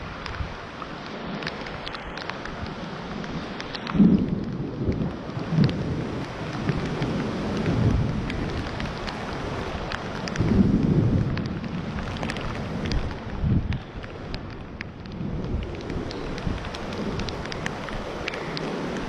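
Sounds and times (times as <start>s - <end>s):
rain falling steadily: 0.0s - 19.0s
sharp raindrop ticks: 0.0s - 19.0s
thunder rumbling: 3.1s - 19.0s.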